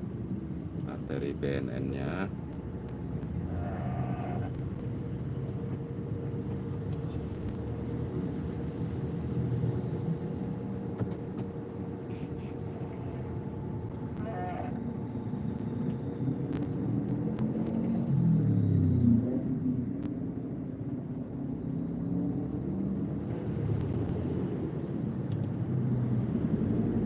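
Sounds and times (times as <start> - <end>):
traffic engine rumble: 0.0 - 27.0.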